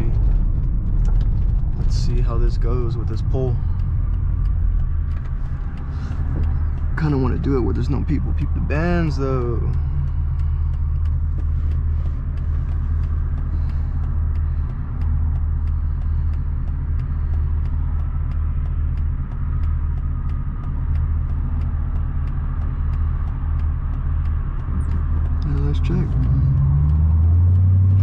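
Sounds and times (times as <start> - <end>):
car engine rumbling: 0.0 - 28.0
faint regular ticking: 0.0 - 28.0.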